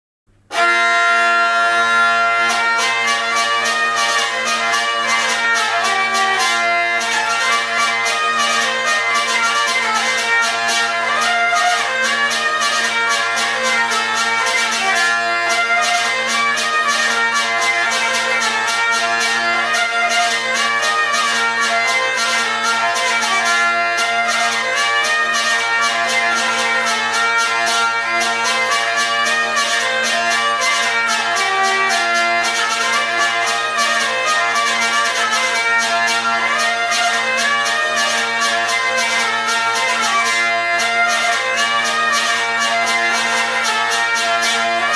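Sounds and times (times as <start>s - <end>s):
hurdy-gurdy melody with drones: 0.5s - 44.9s
rhythmic buzzing bridge: 0.5s - 44.9s.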